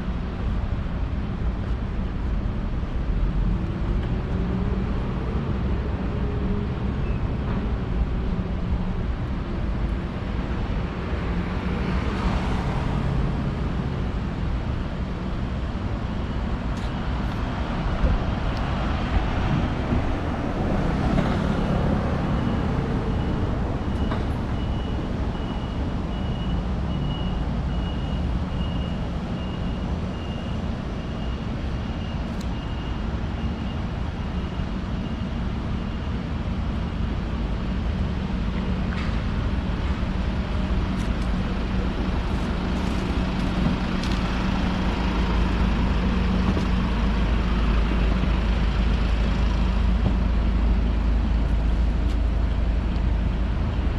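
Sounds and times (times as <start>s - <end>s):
traffic engines and tyre rumble: 0.0s - 53.9s.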